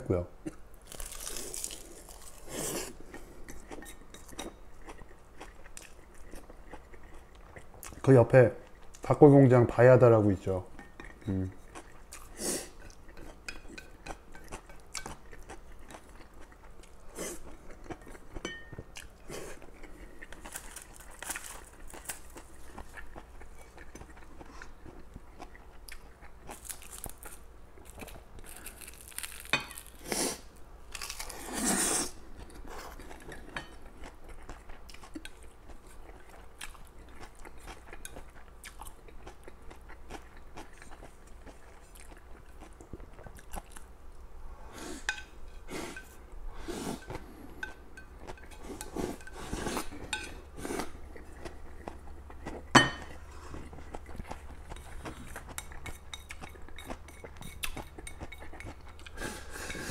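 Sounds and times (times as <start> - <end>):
chewing and crunching: 0.5 - 9.1, 10.7 - 30.1, 30.9 - 43.9, 47.0 - 59.9.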